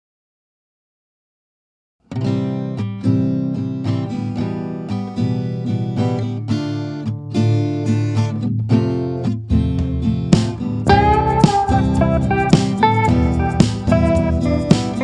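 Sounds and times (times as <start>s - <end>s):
acoustic guitar chords: 2.1s - 15.0s.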